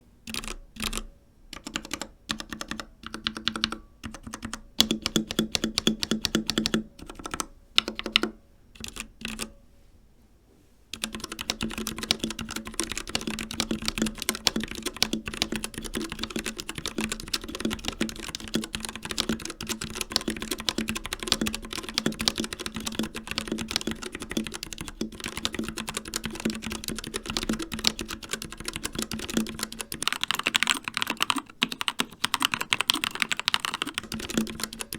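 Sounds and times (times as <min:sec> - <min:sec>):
typing on mechanical keyboard: 0:00.3 - 0:09.5, 0:11.0 - 0:34.9.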